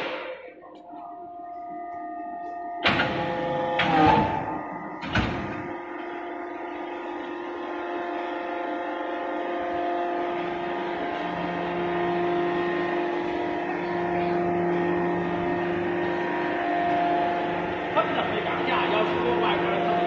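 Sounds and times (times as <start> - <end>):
hydraulic machine humming: 0.0 - 20.0
low machine tone: 0.0 - 20.0.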